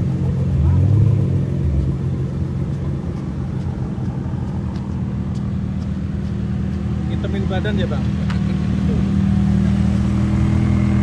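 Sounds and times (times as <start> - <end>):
car engines rumbling: 0.0 - 11.0
road noise: 0.0 - 11.0.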